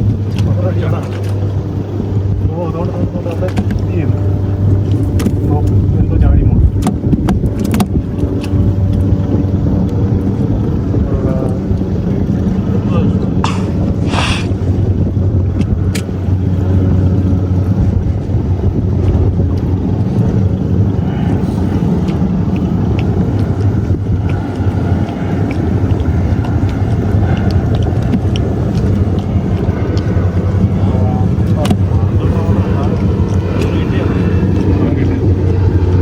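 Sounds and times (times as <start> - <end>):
boat engine humming: 0.0 - 36.0
water noise: 0.0 - 36.0
wind: 0.0 - 36.0.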